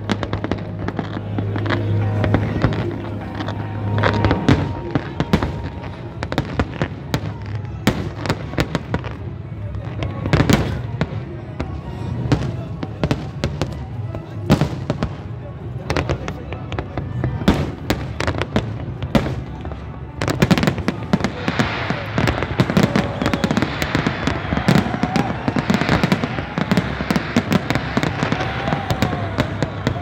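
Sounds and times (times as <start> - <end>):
fireworks bangs: 0.0 - 30.0
fireworks crackle: 0.0 - 30.0.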